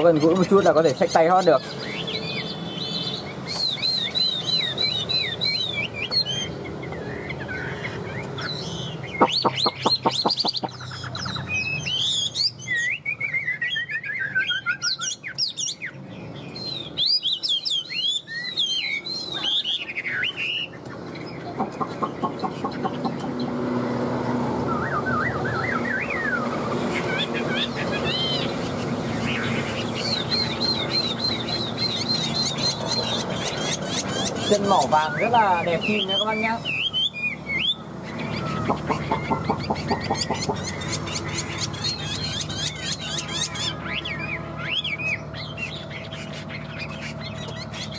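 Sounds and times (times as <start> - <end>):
songbird singing varied song: 0.0 - 47.9.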